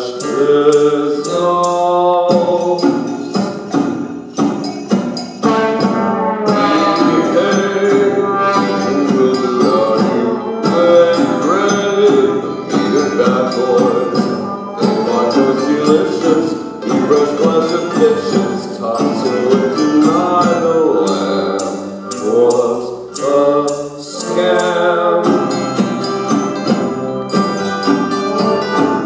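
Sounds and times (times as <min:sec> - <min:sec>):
jingling hand percussion: 0:00.0 - 0:29.0
live band playing: 0:00.0 - 0:29.0.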